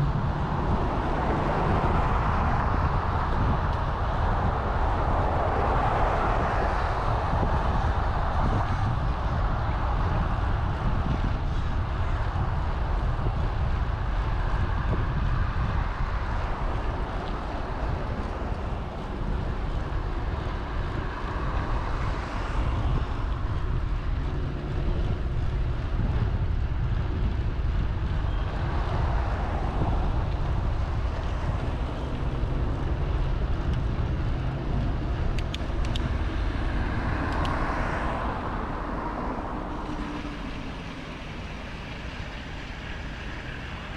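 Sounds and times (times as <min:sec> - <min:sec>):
bicycle road noise: 0:00.0 - 0:43.9
wind rumble on microphone: 0:00.0 - 0:43.9.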